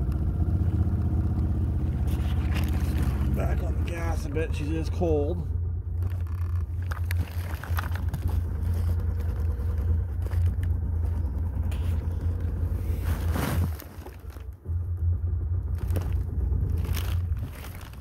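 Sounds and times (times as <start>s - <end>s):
golf cart engine running: 0.0s - 18.0s.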